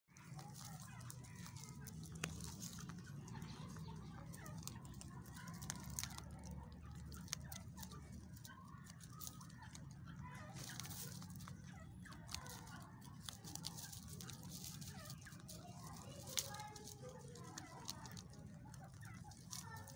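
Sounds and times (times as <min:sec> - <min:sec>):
rabbits nibbling in straw: 0:00.1 - 0:19.9
clucking: 0:00.2 - 0:19.9.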